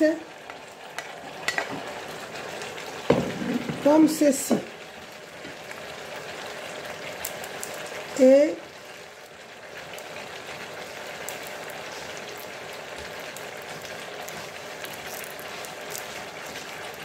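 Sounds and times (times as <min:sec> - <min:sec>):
beef sizzling in a frying pan: 0:00.0 - 0:17.0.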